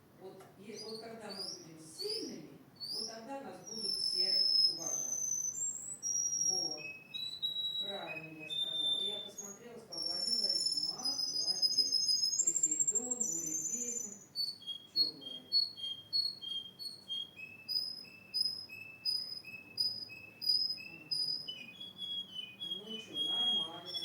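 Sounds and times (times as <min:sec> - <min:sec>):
canary singing: 0:00.6 - 0:24.0.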